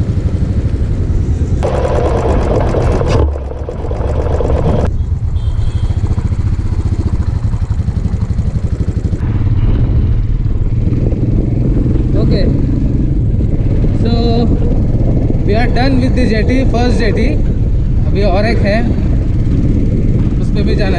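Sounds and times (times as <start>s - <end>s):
motorcycle engine running: 0.0s - 20.9s.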